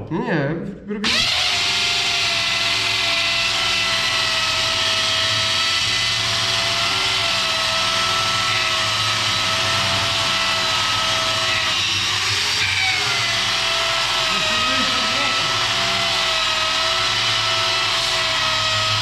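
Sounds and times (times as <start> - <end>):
electric grinder polishing metal: 1.0 - 19.0.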